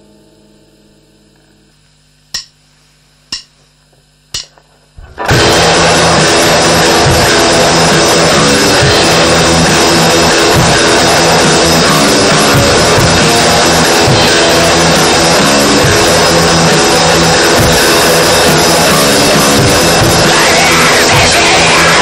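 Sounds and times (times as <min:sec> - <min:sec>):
distorted guitar: 0:00.0 - 0:22.0
drum kit: 0:04.3 - 0:22.0.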